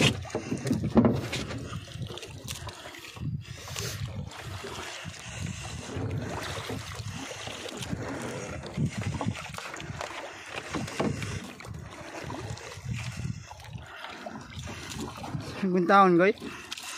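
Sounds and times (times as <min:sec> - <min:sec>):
wind buffeting microphone: 0:00.0 - 0:15.6
water splashing against boat hull: 0:00.0 - 0:16.9.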